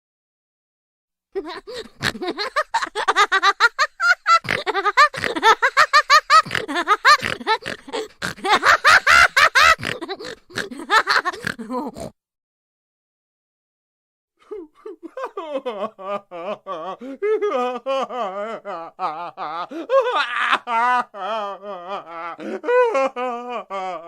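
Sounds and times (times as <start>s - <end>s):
cartoon laugh: 1.4s - 12.0s, 14.5s - 24.0s.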